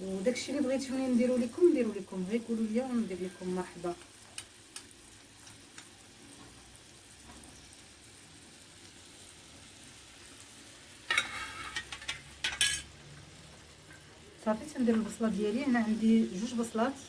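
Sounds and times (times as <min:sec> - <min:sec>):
clay pot sizzling faintly: 0:00.0 - 0:17.0.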